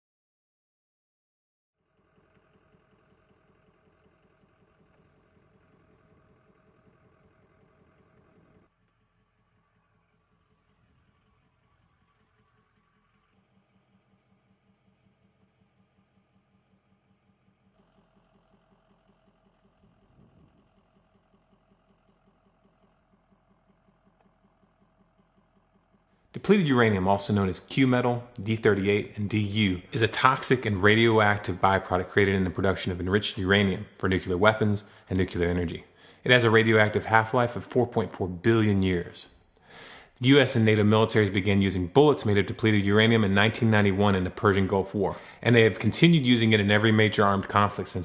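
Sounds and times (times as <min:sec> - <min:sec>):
faint engine hum: 0:02.0 - 0:48.0.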